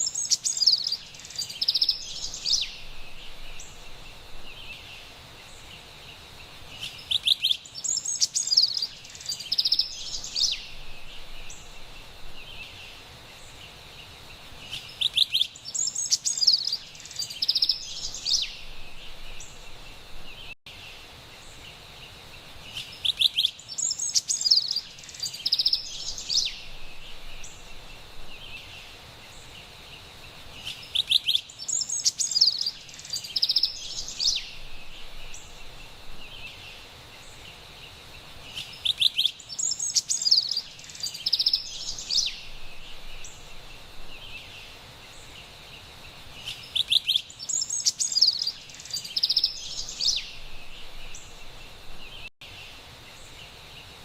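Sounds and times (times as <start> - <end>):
wren singing: 0.0 - 5.8, 6.7 - 13.6, 14.6 - 20.6, 22.7 - 29.6, 30.5 - 37.6, 38.4 - 52.3
faint forest hiss: 0.0 - 54.0.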